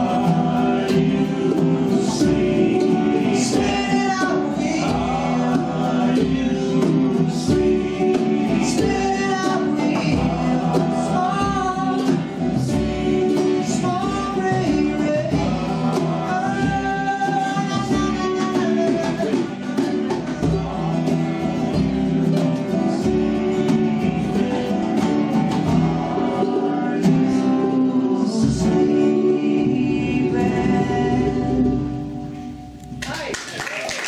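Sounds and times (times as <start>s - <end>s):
live band playing: 0.0s - 34.0s.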